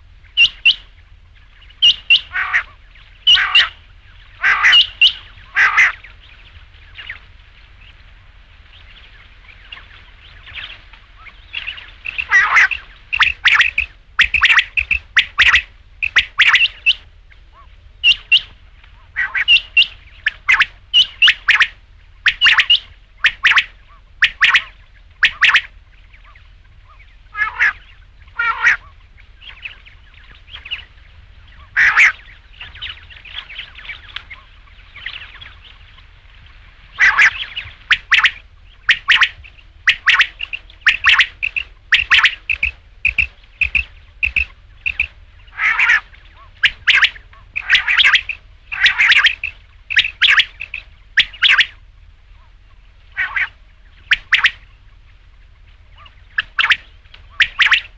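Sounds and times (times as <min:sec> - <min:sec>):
quail calling: 0:00.0 - 0:08.1, 0:08.8 - 0:57.9.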